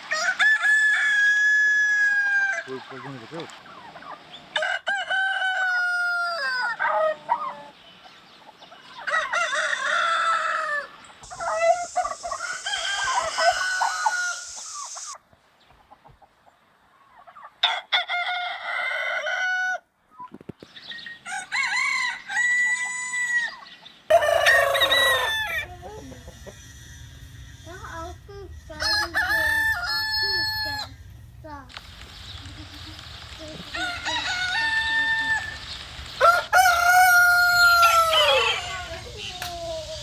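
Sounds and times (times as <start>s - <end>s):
roosters crowing: 0.0s - 15.2s, 17.6s - 19.9s, 21.1s - 40.0s
chickens clucking: 2.0s - 17.8s, 22.9s - 40.0s.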